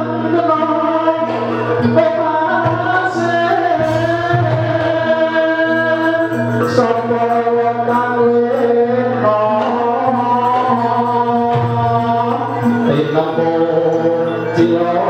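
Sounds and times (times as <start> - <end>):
gamelan ensemble playing: 0.0 - 15.0
person singing long notes: 0.0 - 15.0.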